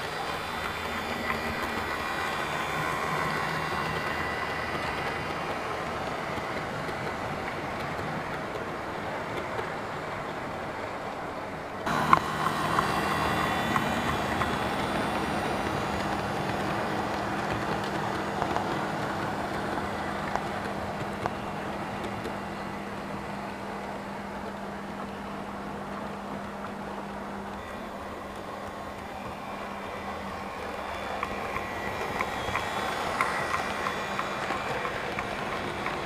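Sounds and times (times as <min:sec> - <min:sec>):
model train wheels rumbling on rails: 0:00.0 - 0:36.0
steady motor hum: 0:00.0 - 0:36.0.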